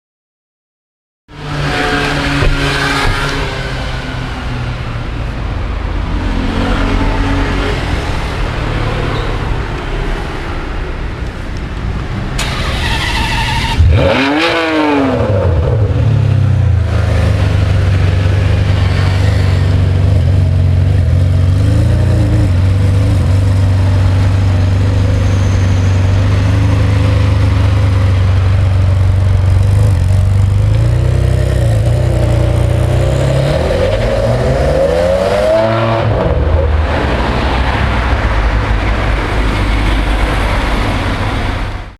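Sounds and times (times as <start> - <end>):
sports car engine idling and revving: 1.3 - 9.9, 12.4 - 41.8.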